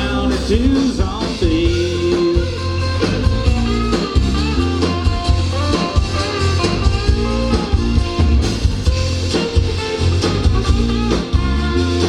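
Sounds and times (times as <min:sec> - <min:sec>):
drums: 0:00.0 - 0:12.0
electric guitar melody: 0:00.0 - 0:12.0
low bass rhythm: 0:00.0 - 0:12.0.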